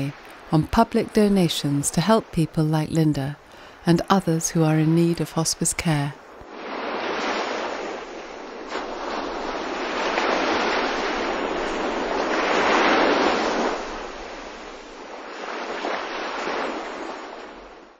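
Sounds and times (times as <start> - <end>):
waves washing on shore: 0.0 - 2.7, 5.8 - 17.9.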